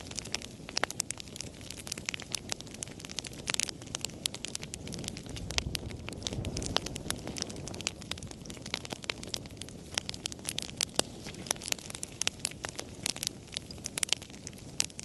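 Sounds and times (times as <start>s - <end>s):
fire crackling and popping: 0.0s - 15.0s
low rumble of flame: 0.0s - 15.0s.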